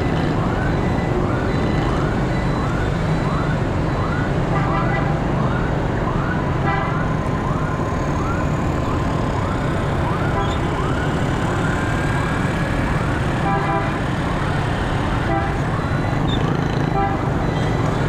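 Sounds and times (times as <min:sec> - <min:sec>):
ambulance siren wailing: 0:00.0 - 0:18.0
motorbike engines and traffic: 0:00.0 - 0:18.0.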